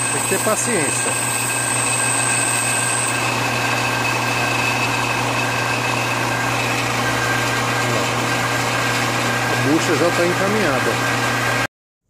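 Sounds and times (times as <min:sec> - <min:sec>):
metal lathe humming: 0:00.0 - 0:11.7
whining tones: 0:00.0 - 0:11.7.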